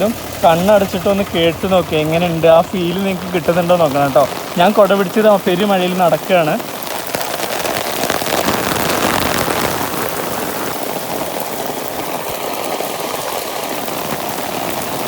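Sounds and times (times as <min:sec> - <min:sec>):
heavy rain pouring: 0:00.0 - 0:15.0
raindrops pattering on umbrella: 0:00.0 - 0:15.0.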